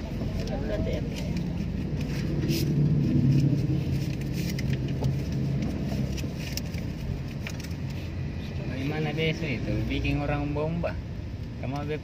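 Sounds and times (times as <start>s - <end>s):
car engine hum inside cabin: 0.0s - 12.0s
road rumble: 0.0s - 12.0s.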